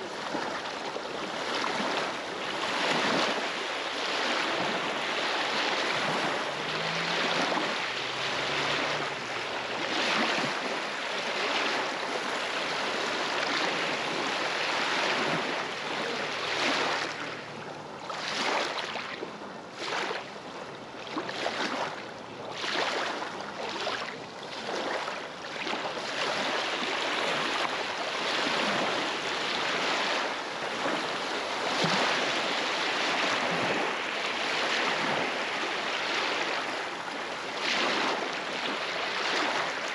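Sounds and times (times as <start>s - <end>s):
small waves lapping on stony shore: 0.0s - 39.9s.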